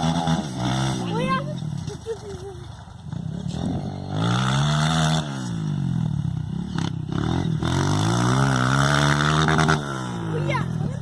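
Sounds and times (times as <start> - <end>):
dirt bike engine revving: 0.0 - 2.3, 2.9 - 11.0.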